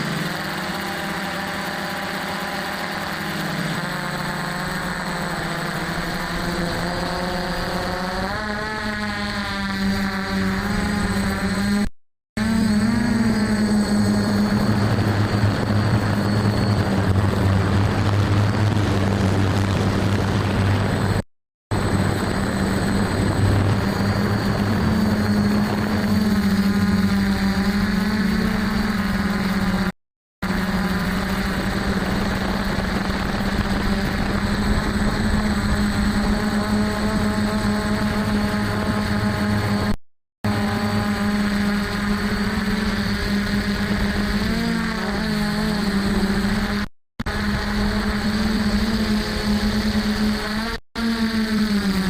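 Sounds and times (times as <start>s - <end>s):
quadcopter motors humming: 0.0s - 52.0s.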